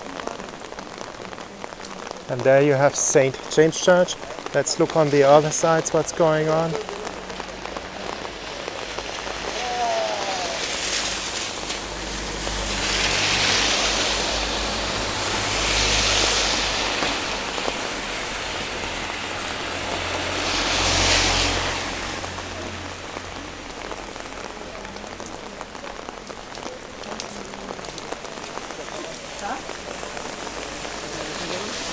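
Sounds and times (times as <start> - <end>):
heavy rain falling: 0.0 - 31.9
tyres hissing on wet road: 0.0 - 31.9.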